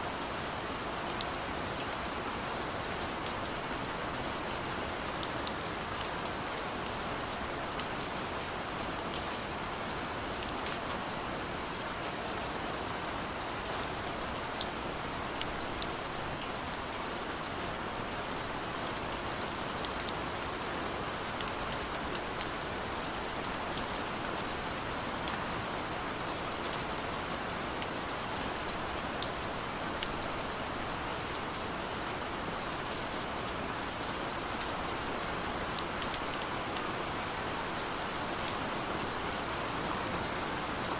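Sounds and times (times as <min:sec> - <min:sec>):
steady rain hiss: 0:00.0 - 0:40.9
raindrops ticking on a surface: 0:00.3 - 0:40.9.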